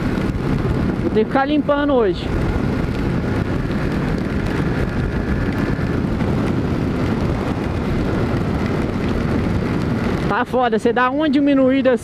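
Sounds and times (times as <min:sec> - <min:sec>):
motorcycle running: 0:00.0 - 0:12.0
wind rushing over microphone: 0:00.0 - 0:12.0.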